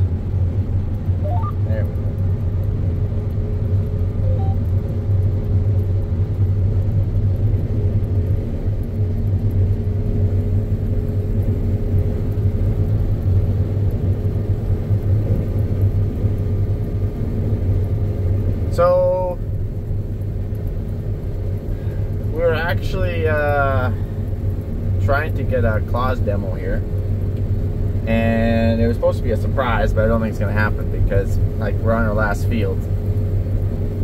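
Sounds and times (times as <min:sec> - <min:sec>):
combine harvester low drone: 0:00.0 - 0:34.0
faint constant whine: 0:00.0 - 0:34.0.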